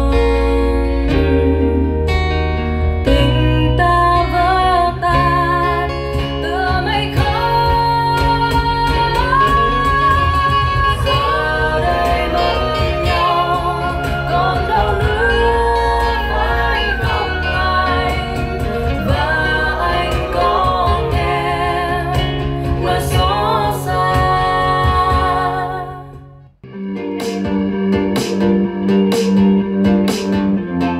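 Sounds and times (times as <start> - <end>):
person singing: 0.0 - 2.1, 3.1 - 26.3
bass guitar: 0.0 - 30.9
guitar: 0.0 - 30.9.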